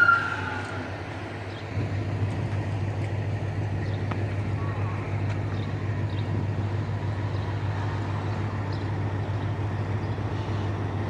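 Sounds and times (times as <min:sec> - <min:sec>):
rumble: 0:00.6 - 0:11.0.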